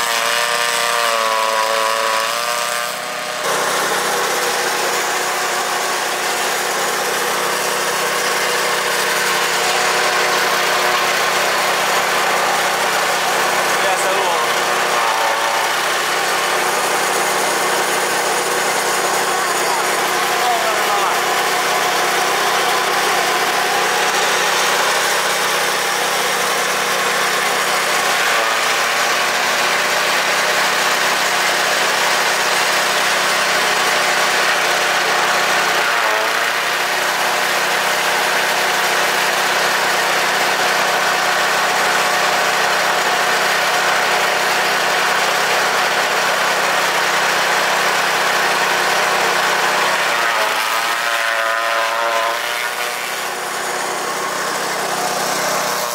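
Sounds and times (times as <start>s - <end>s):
chaff cutter chopping stalks: 0.0s - 55.9s.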